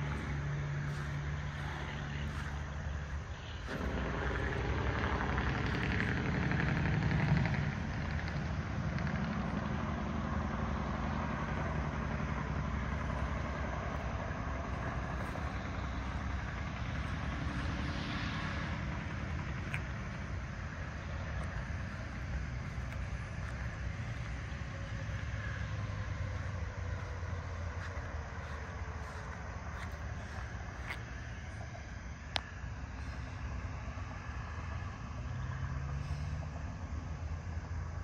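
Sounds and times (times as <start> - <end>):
distant road traffic rumble: 0.0 - 38.0
vehicle passing: 0.0 - 38.0.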